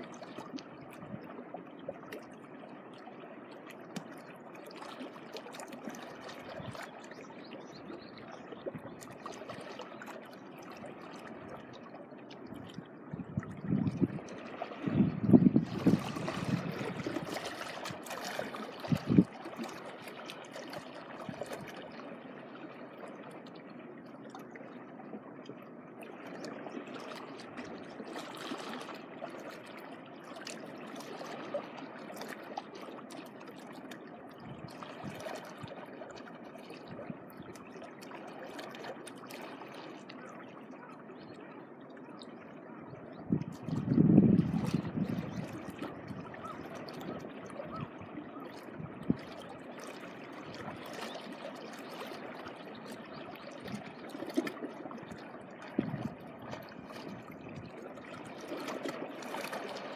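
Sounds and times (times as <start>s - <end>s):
sea water washing at shoreline: 0.0s - 59.9s.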